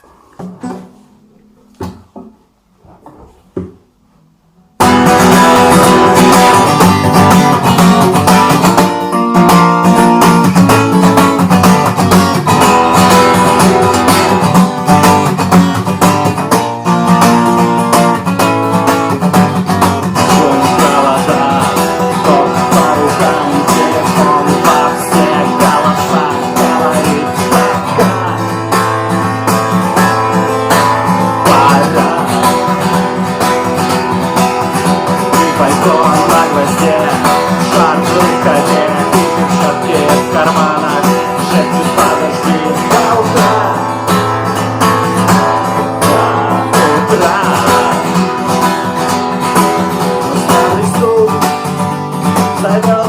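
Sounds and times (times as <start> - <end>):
strummed acoustic guitar: 0.0 - 53.0.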